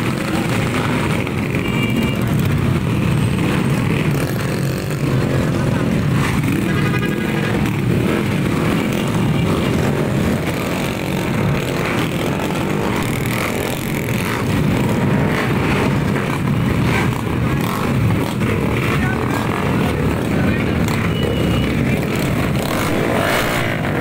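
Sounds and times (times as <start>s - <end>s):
scooter engines droning: 0.0s - 24.0s.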